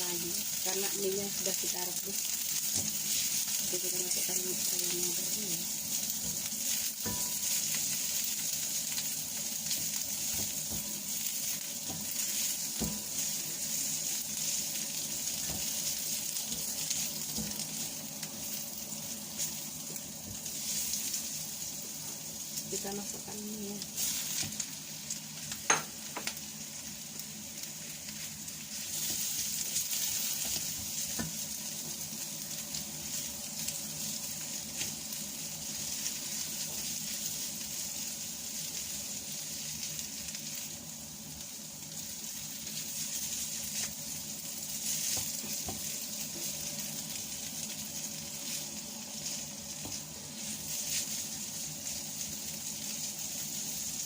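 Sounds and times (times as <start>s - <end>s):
vegetables sizzling in a pan: 0.0s - 54.0s.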